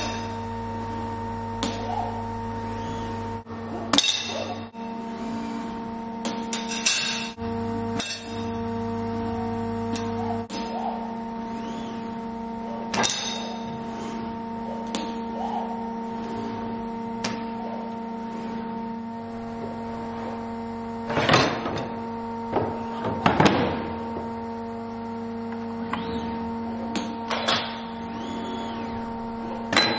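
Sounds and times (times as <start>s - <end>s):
steady electrical hum: 0.0s - 29.9s.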